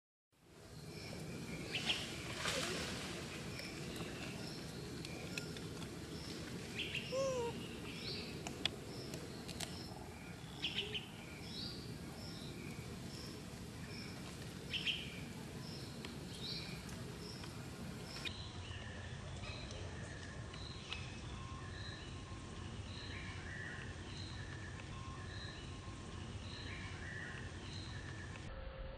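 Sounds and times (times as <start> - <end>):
birds chirping: 0.6 - 28.5.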